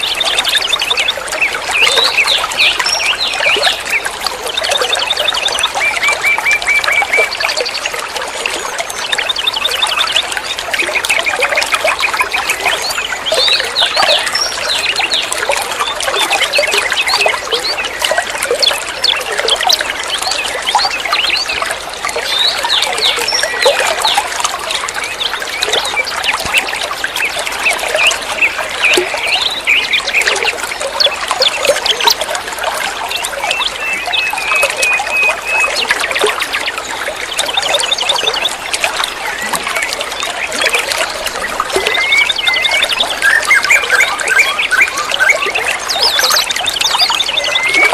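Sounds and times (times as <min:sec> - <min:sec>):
songbirds chirping: 0:00.0 - 0:47.9
water trickling and splashing: 0:00.0 - 0:47.9.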